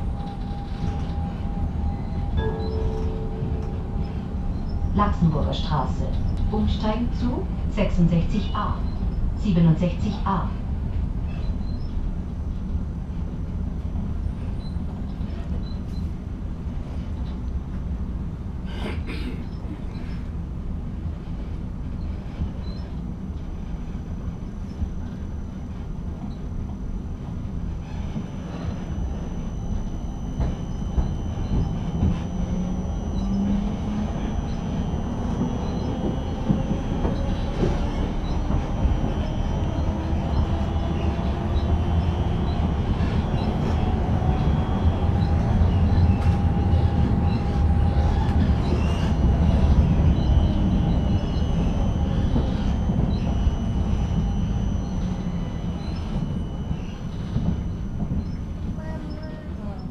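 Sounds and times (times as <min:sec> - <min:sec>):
wheels rumbling on rails: 0:00.0 - 0:18.7, 0:19.4 - 0:59.9
tram motor whine: 0:00.0 - 0:59.9.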